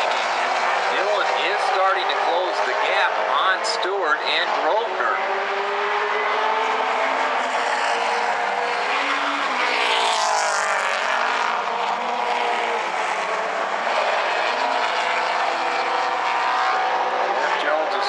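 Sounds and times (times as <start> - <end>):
racing car engines passing: 0.0 - 18.0.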